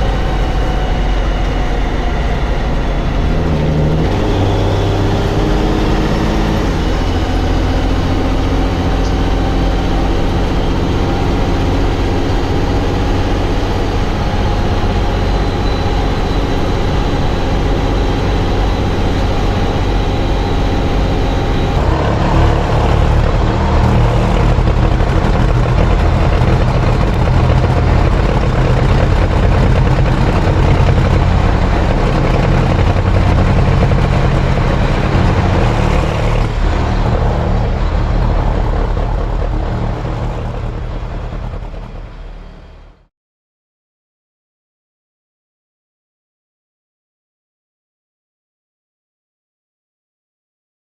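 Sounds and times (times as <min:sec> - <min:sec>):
truck engine running hard: 0:00.0 - 0:43.1.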